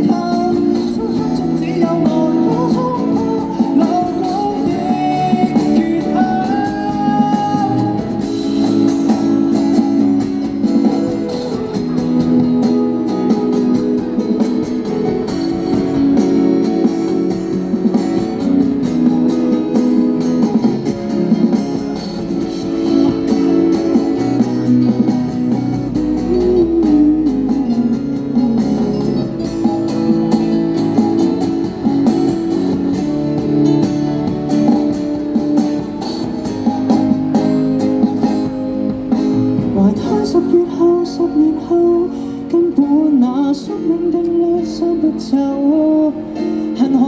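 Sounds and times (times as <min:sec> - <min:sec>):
live band playing ballad: 0:00.0 - 0:47.0.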